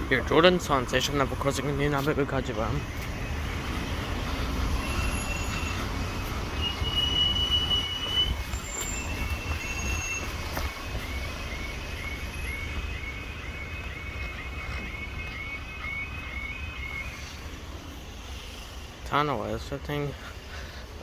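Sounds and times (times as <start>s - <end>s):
high wheel squeals: 0.0s - 19.0s
level crossing warning alarm: 0.0s - 20.6s
train rumbling over rails: 0.0s - 21.0s.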